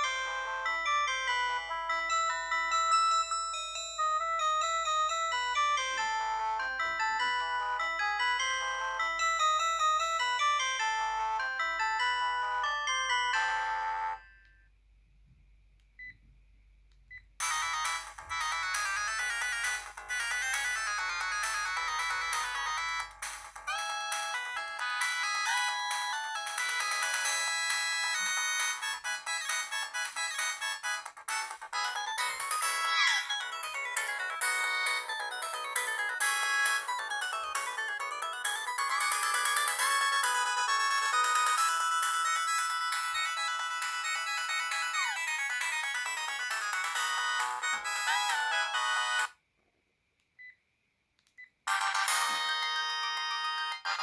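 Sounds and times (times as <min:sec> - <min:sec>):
polyphonic phone ringtones: 0:00.0 - 0:14.4, 0:17.4 - 0:49.3, 0:51.7 - 0:54.0.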